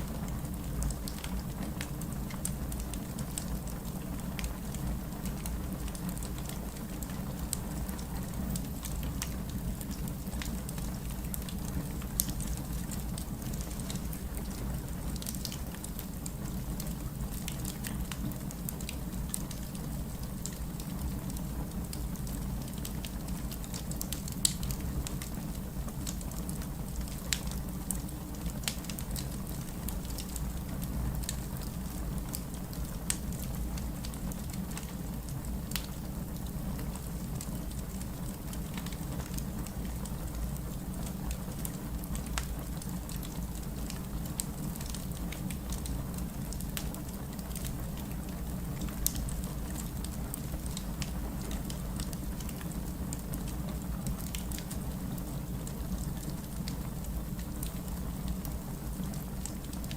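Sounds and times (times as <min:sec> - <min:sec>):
fireplace crackling: 0:00.0 - 0:59.9.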